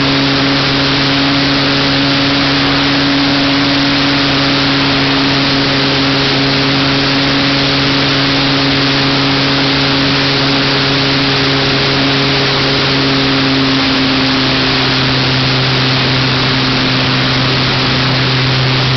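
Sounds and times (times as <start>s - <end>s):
electric motor hum: 0.0s - 18.9s
propeller wash and airflow: 0.0s - 18.9s.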